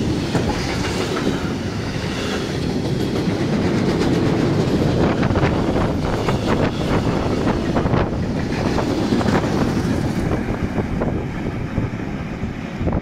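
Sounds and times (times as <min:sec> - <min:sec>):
train wheels clattering over rails: 0:00.0 - 0:13.0
wind rumbling on microphone: 0:02.6 - 0:13.0.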